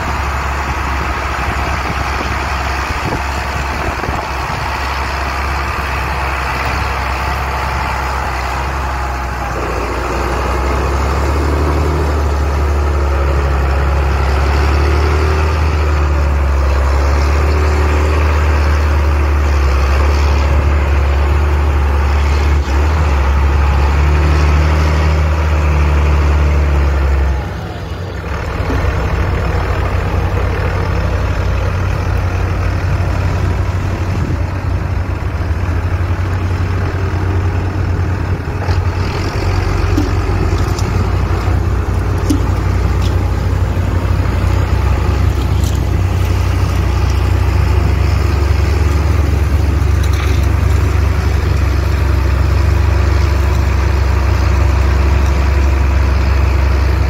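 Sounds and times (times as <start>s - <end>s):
tractor diesel engine drone: 0.0s - 57.0s.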